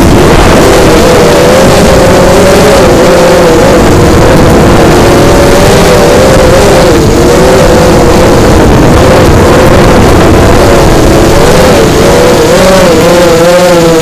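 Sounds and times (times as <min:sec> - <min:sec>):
quadcopter motors whining: 0:00.0 - 0:14.0
wind rush on microphone: 0:00.0 - 0:14.0.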